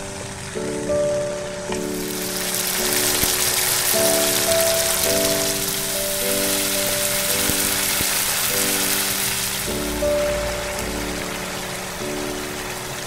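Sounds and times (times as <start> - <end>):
background music: 0.0 - 13.0
curry sizzling in oil: 0.2 - 13.0.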